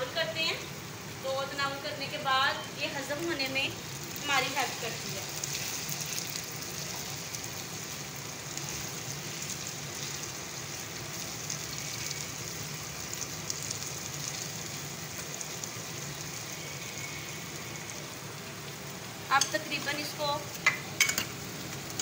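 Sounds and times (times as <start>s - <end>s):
vegetable slices sizzling in oil: 0.0s - 22.0s.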